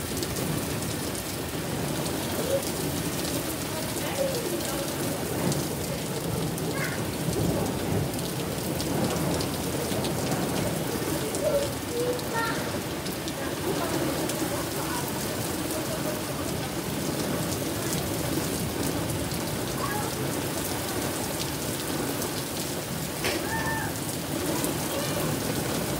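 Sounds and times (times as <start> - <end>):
heavy rain pouring: 0.0 - 25.9
low thunder rumble: 0.3 - 25.9.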